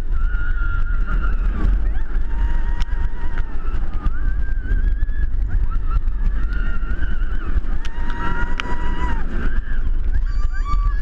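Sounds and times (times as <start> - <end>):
riders screaming: 0.0 - 11.0
wind buffeting microphone: 0.0 - 11.0.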